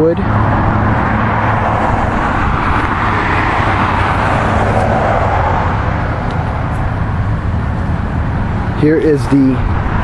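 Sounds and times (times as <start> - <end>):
low traffic hum: 0.0 - 10.0
passing vehicles rushing: 0.0 - 10.0.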